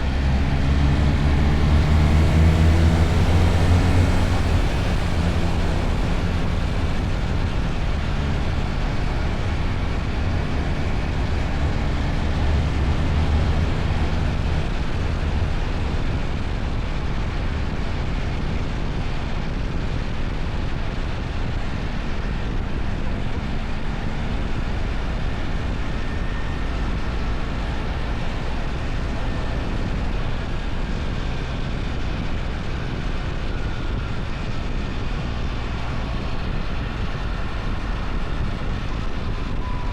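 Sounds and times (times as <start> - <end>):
rush of air and road noise: 0.0 - 39.9.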